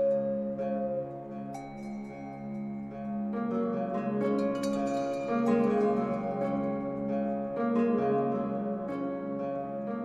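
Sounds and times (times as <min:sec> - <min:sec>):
slow plucked-string melody: 0:00.0 - 0:10.0.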